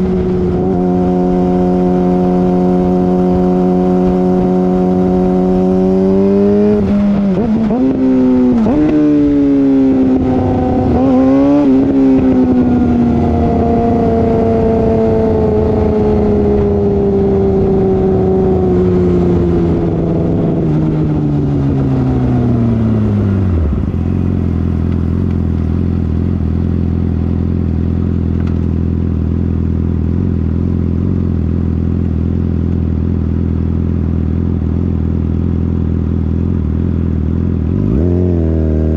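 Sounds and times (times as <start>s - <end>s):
motorcycle exhaust revving and idling: 0.0s - 38.9s.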